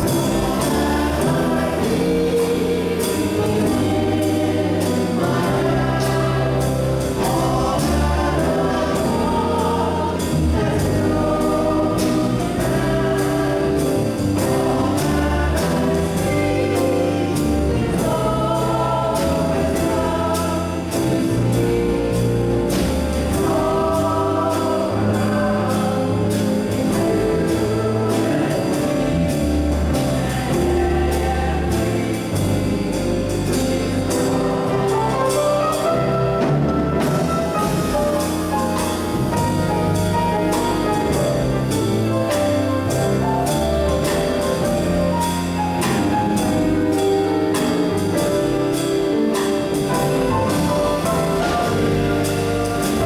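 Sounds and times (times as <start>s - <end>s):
choir singing gospel song: 0.0s - 53.0s
live band accompaniment: 0.0s - 53.0s.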